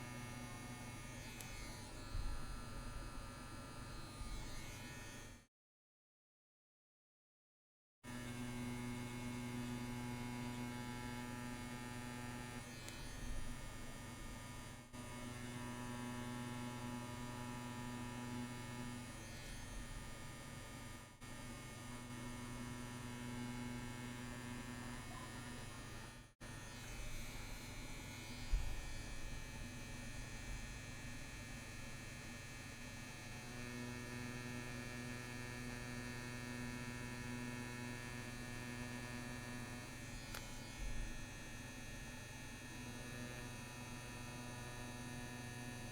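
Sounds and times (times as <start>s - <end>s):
tattoo machine buzzing: 0.0s - 5.4s, 8.1s - 45.9s.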